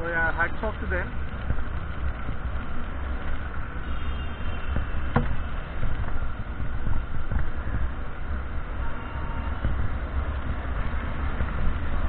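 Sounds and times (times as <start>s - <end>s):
tyres on wet tarmac: 0.0s - 12.0s
wind rumble on microphone: 0.0s - 12.0s.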